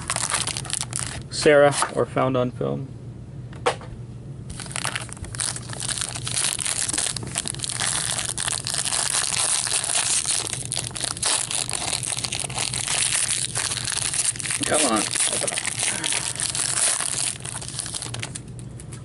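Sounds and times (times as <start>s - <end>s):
plastic wrapping crinkling: 0.0s - 1.3s, 4.5s - 19.0s.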